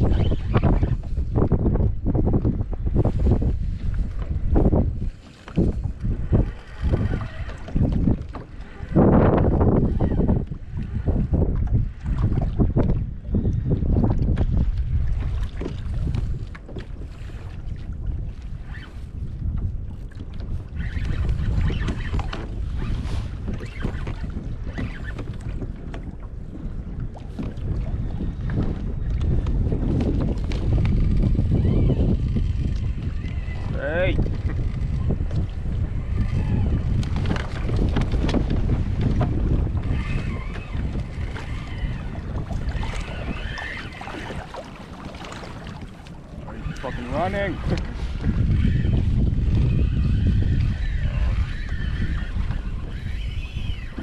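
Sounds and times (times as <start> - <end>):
water splashing against kayak hull: 0.0 - 54.0
wind buffeting microphone: 0.0 - 54.0.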